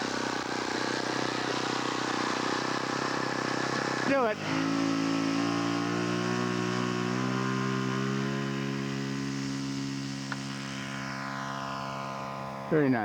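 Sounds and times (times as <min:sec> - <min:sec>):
model airplane engine drone: 0:00.0 - 0:13.0.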